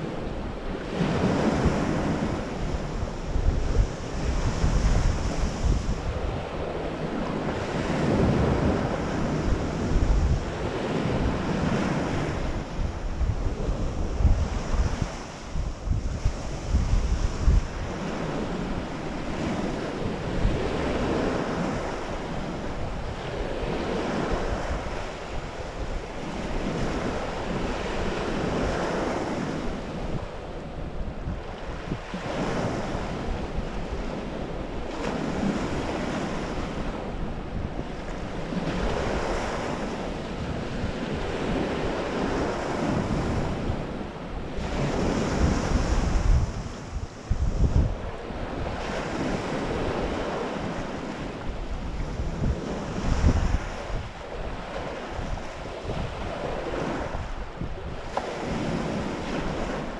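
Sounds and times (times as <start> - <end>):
waves washing up stony shore: 0.0 - 30.1, 38.1 - 59.9
wind buffeting microphone: 0.0 - 59.9.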